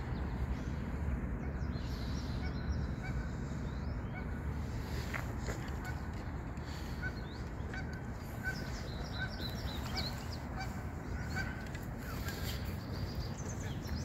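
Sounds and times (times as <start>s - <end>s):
distant birds calling: 0.0s - 14.0s
low outdoor background noise: 0.0s - 14.0s.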